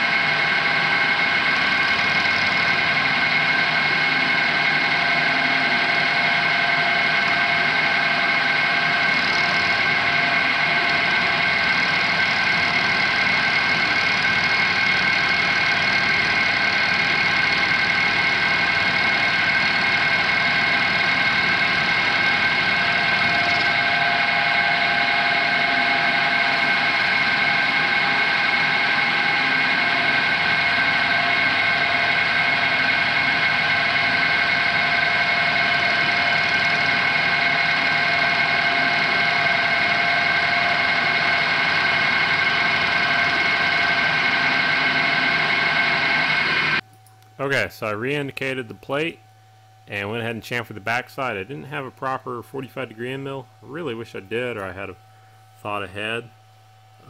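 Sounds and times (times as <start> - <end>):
milling machine whining: 0.0 - 57.0.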